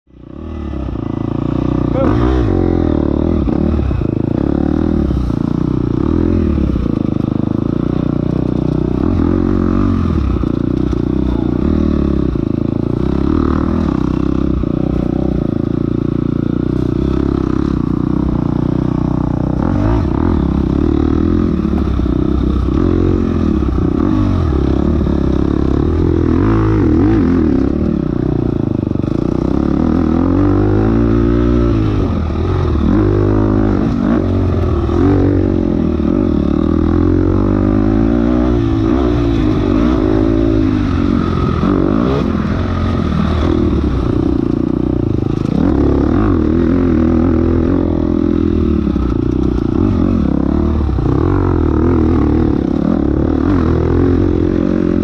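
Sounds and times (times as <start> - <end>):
dirt bike engine revving: 0.2 - 55.0.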